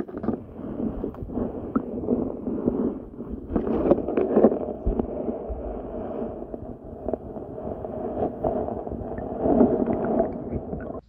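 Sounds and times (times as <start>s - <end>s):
muffled underwater water rumble: 0.0s - 11.0s.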